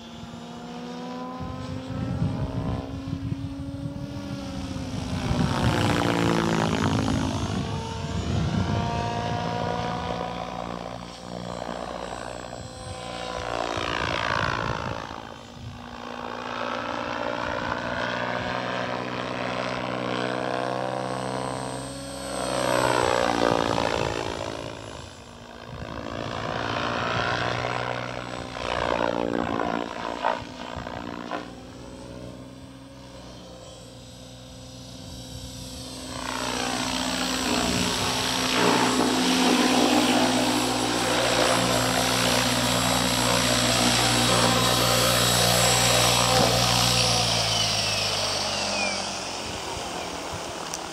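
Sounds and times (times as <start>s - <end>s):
rc helicopter rotor and motor: 0.0s - 50.9s.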